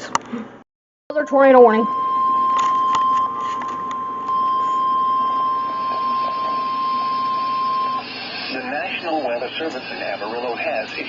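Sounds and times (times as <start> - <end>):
steady high-pitched alarm tone: 1.1 - 11.0.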